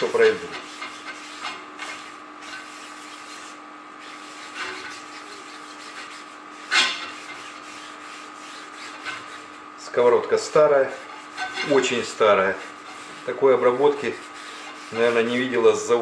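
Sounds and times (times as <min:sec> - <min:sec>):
napkin wiping frying pan: 0:00.0 - 0:09.6, 0:10.3 - 0:16.0
scrape on pan: 0:00.0 - 0:09.6, 0:10.5 - 0:15.8.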